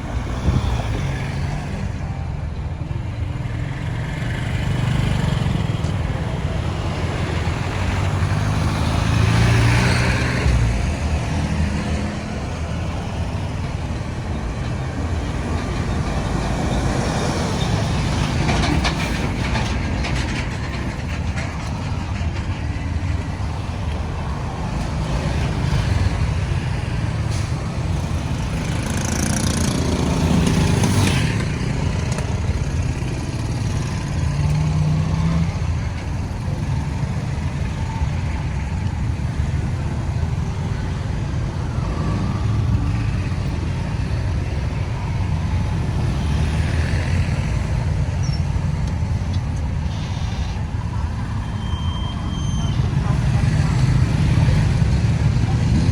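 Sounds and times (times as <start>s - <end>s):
road traffic rumble: 0.0s - 55.9s.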